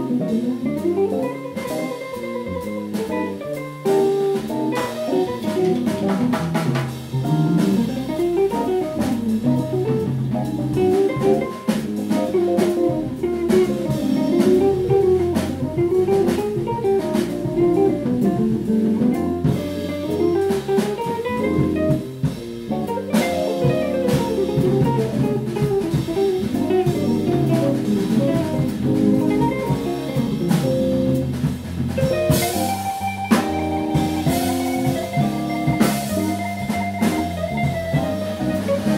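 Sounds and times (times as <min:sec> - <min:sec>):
drum kit: 0:00.0 - 0:38.9
electric bass: 0:00.0 - 0:38.9
jazz electric guitar solo: 0:00.0 - 0:38.9.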